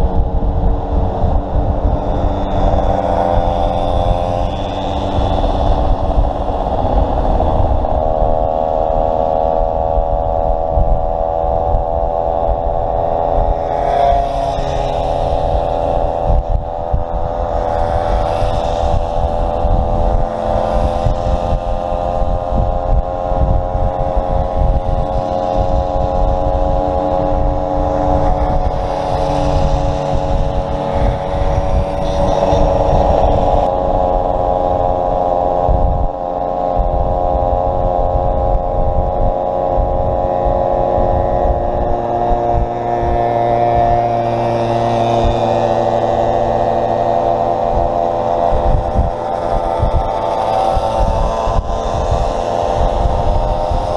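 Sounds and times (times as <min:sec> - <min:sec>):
moped engine running: 0:00.0 - 0:53.9
wind buffeting microphone: 0:00.0 - 0:53.9.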